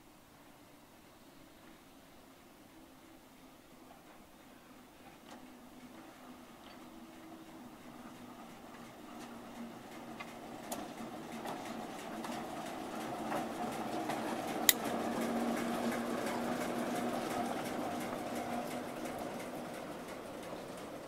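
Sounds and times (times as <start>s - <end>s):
diesel locomotive engine droning: 1.0s - 21.0s.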